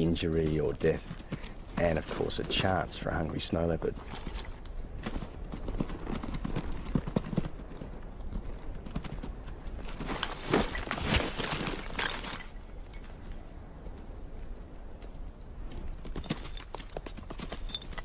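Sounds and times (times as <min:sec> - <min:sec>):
hooves clattering on rock: 0:00.0 - 0:14.3, 0:14.9 - 0:18.0.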